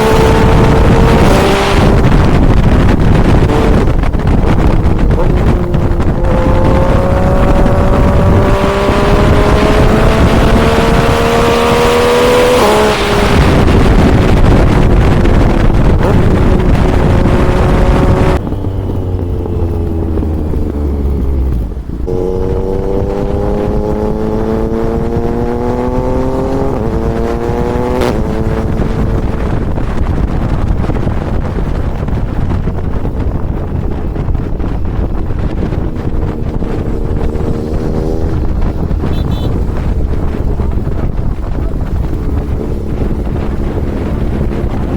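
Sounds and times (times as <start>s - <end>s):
motorcycle engine shifting gears: 0.0s - 44.9s
wind rushing across microphone: 0.0s - 44.9s.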